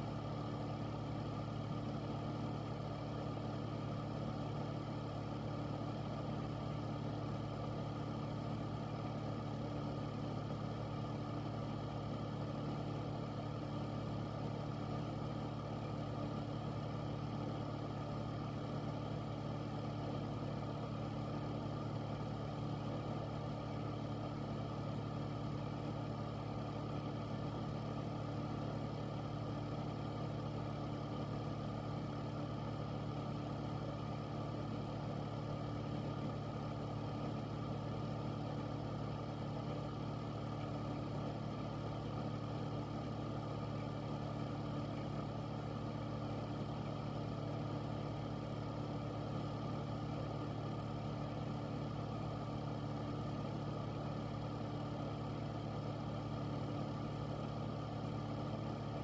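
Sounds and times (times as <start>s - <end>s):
air filter fan running: 0.0s - 59.0s.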